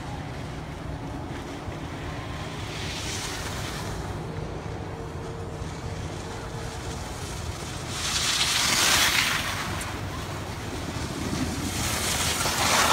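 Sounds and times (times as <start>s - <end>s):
wind rumbling on microphone: 0.0s - 12.9s
skis scraping on snow: 1.3s - 12.9s.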